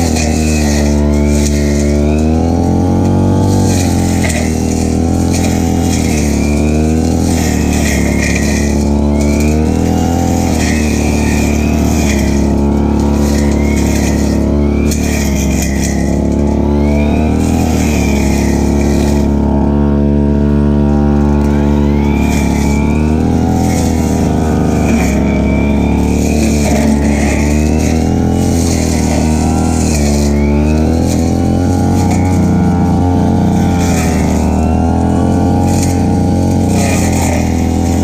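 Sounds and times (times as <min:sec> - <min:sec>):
brush cutter engine running: 0:00.0 - 0:38.0.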